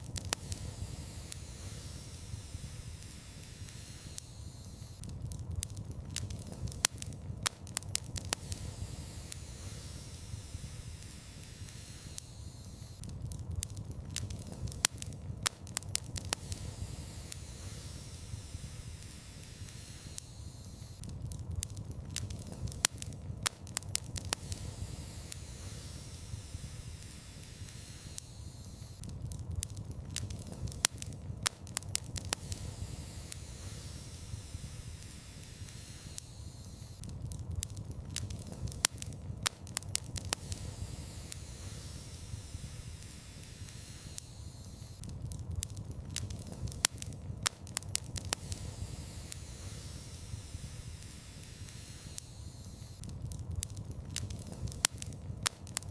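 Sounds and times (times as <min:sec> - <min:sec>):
fire crackling and popping: 0:00.0 - 0:55.9
wood fire rumbling: 0:00.0 - 0:55.9.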